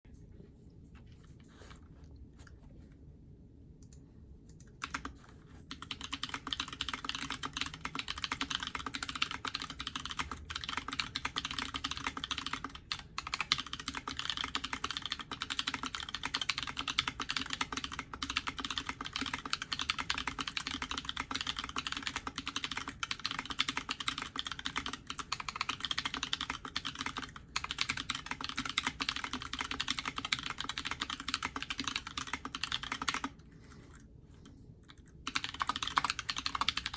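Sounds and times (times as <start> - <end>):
typing on mechanical keyboard: 4.7 - 34.0, 34.9 - 36.9.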